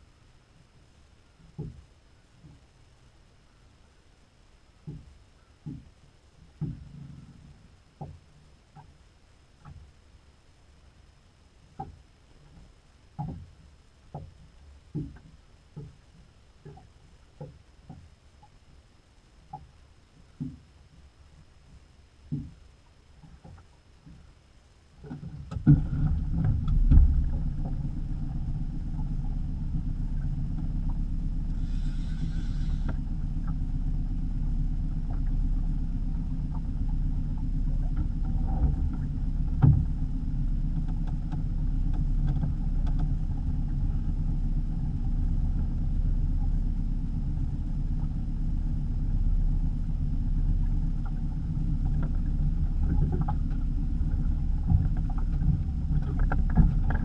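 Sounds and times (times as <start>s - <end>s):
boat engine low rumble: 0.0s - 57.0s.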